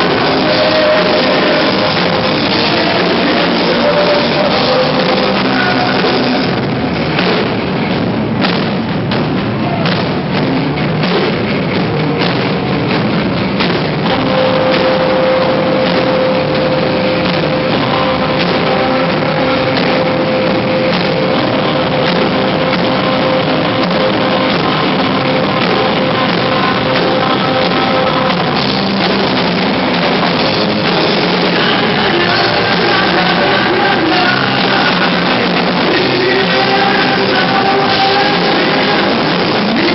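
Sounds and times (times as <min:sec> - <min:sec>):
drum hits: 0:00.0 - 0:39.9
loud live rock band: 0:00.0 - 0:39.9.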